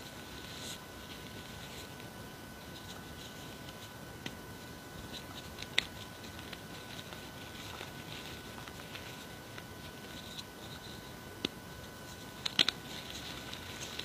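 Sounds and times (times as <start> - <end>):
chalk crumbling rustle: 0.0 - 11.2, 11.8 - 14.0.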